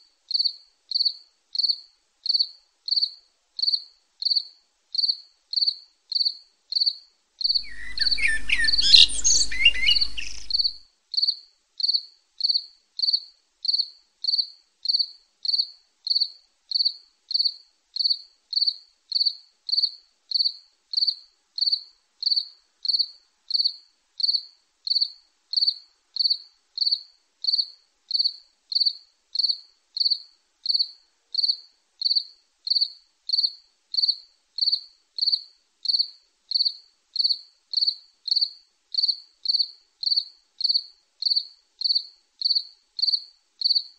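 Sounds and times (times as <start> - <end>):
cricket chirping: 0.3 - 43.9.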